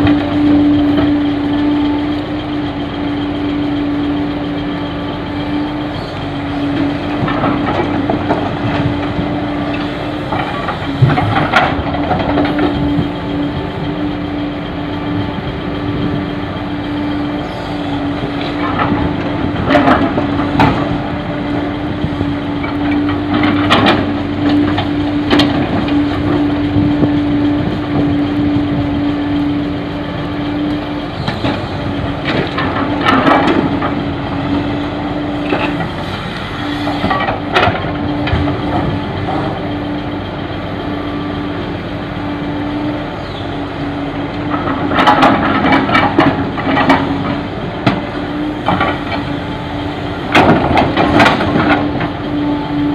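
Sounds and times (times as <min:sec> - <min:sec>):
diesel engine humming: 0:00.0 - 0:52.9.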